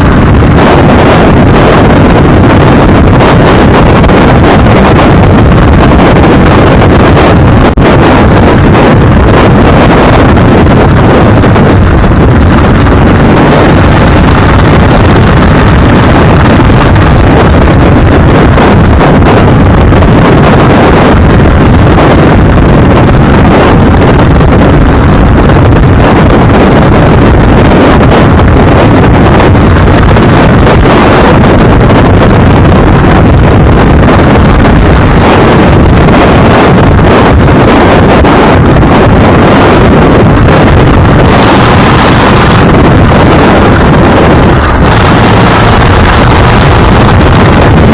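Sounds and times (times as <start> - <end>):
vehicle road noise: 0.0 - 47.9
wind buffeting microphone: 0.0 - 47.9.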